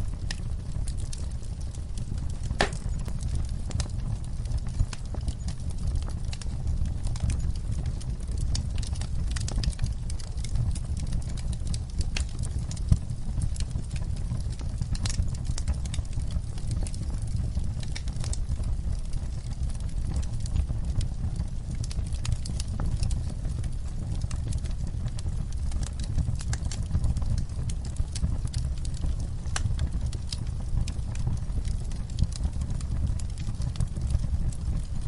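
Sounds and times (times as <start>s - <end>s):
fire crackling and popping: 0.0s - 35.0s
fire flames rumbling: 0.0s - 35.0s.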